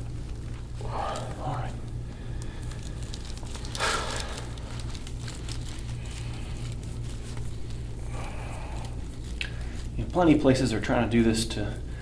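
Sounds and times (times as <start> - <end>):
faint crackling of skin: 0.0 - 10.6
steady low hum: 0.0 - 12.0.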